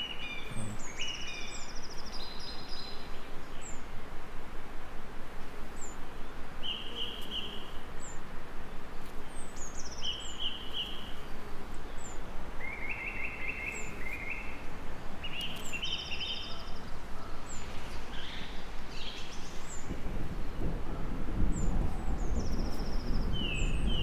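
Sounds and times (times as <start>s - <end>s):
songbirds singing: 0.0s - 4.0s, 5.6s - 24.0s
rain hiss: 0.0s - 24.0s.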